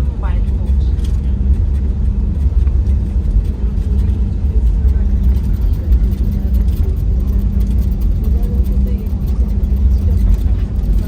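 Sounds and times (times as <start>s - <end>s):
airliner cabin rumble: 0.0s - 11.0s
constant hum: 0.0s - 11.0s.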